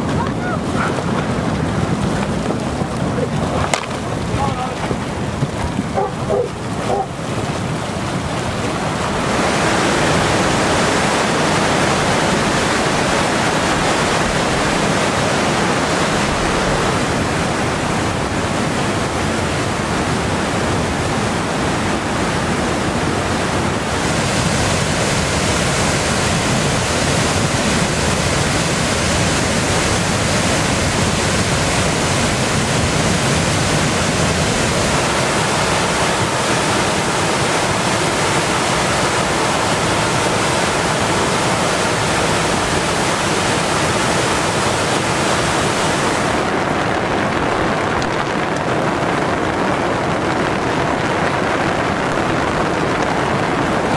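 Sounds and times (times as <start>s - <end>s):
floodwater rushing and churning: 0.0s - 53.9s.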